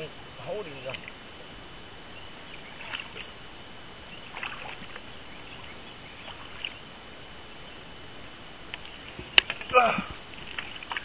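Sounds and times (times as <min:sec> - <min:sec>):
steady background hiss: 0:00.0 - 0:11.0
water sloshing against hull: 0:00.5 - 0:07.8, 0:08.7 - 0:11.0.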